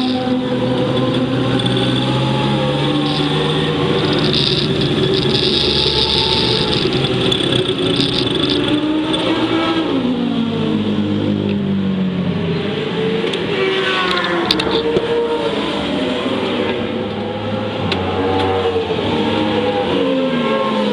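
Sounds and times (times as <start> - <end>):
racing engine at high revs: 0.0 - 20.9.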